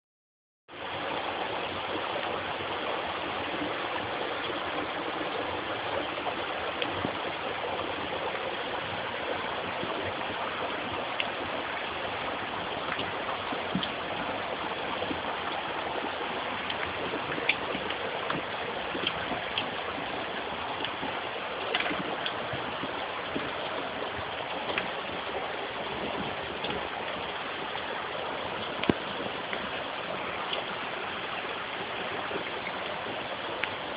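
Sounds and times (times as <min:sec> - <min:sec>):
roaring floodwater stream: 0:00.7 - 0:33.9
faint ticks and splashes: 0:01.6 - 0:33.9.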